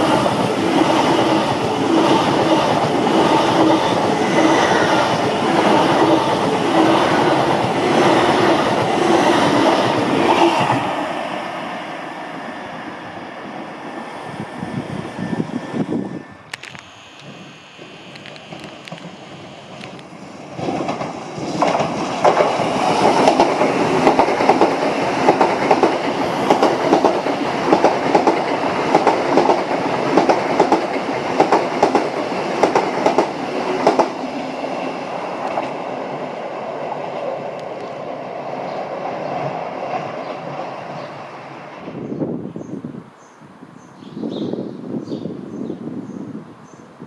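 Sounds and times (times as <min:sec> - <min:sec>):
passenger train passing: 0:00.0 - 0:43.2.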